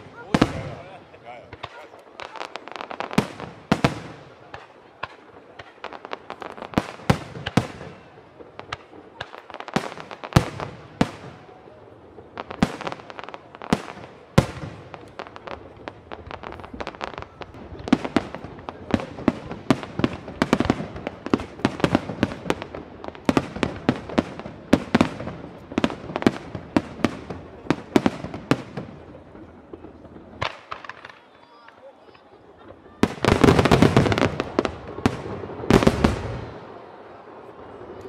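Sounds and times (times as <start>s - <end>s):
fireworks bursts and bangs: 0.0s - 38.0s.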